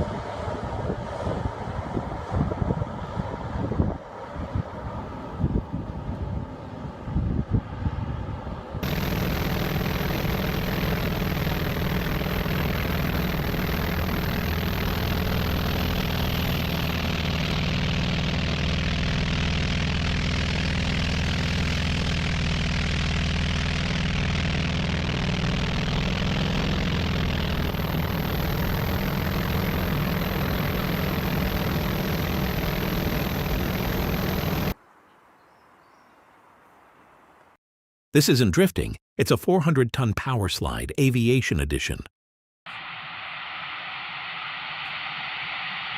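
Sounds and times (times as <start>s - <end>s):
aircraft engines droning: 0.0s - 34.8s, 42.7s - 45.9s.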